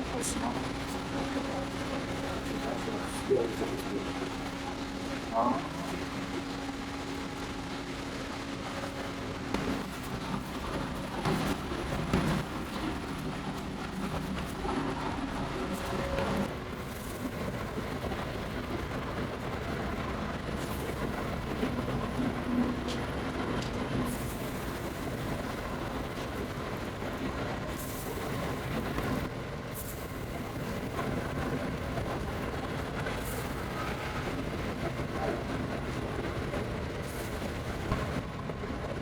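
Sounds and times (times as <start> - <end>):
machinery rumble: 0.0 - 39.0.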